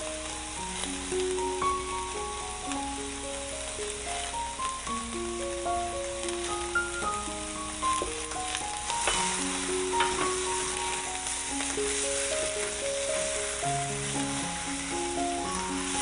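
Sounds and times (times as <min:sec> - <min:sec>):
background music melody: 0:00.0 - 0:16.0
prawns and onion sizzling in a pan: 0:00.0 - 0:16.0.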